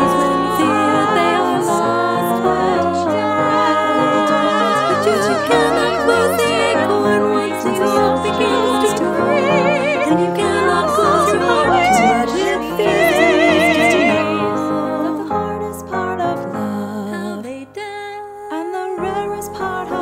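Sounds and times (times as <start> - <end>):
piano accompaniment: 0.0 - 20.0
women singing in harmony: 0.0 - 20.0.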